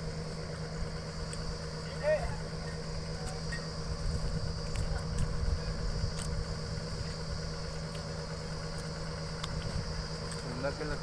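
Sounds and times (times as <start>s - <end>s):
drilling rig engine idling: 0.0s - 11.0s.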